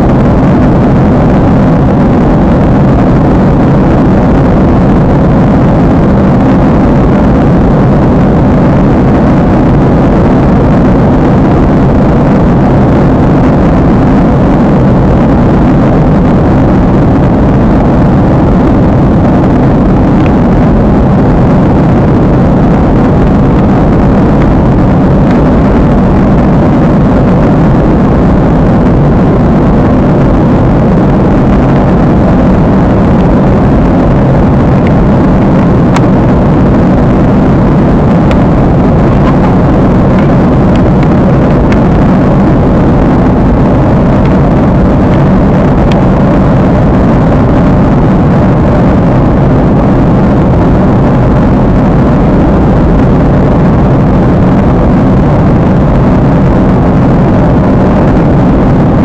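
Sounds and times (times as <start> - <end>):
jet airliner cabin noise: 0.0 - 59.0.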